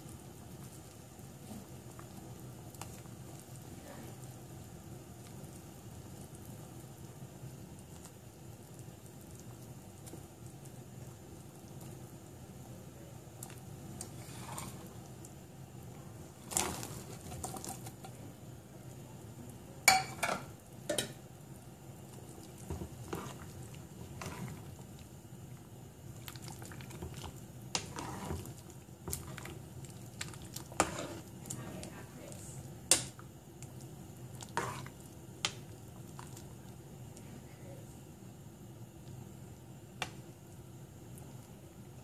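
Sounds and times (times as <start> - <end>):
broth bubbling in a metal pot: 0.0 - 42.0.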